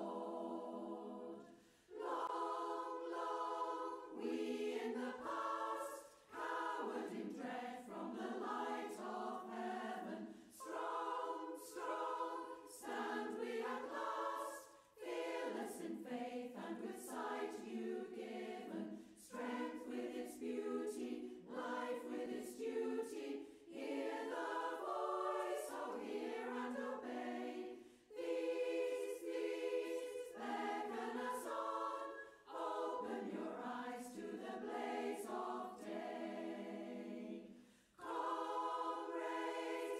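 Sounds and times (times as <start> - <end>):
choir singing a cappella: 0.0 - 39.9.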